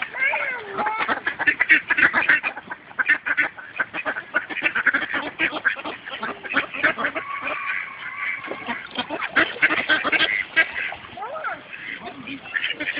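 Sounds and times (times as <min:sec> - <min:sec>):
ducks quacking: 0:00.0 - 0:12.9.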